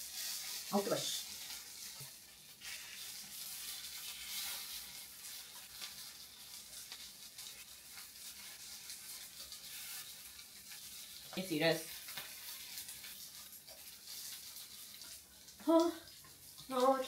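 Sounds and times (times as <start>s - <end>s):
batter balls sizzling in pan: 0.0s - 17.0s.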